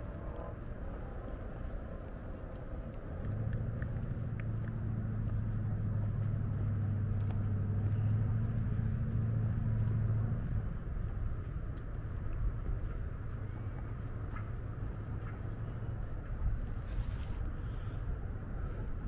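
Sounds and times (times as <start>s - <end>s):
engine hum: 0.0s - 19.0s.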